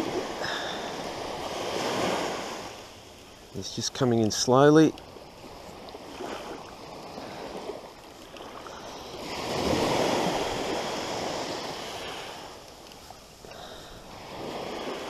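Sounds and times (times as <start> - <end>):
small waves washing on sand: 0.0 - 15.0.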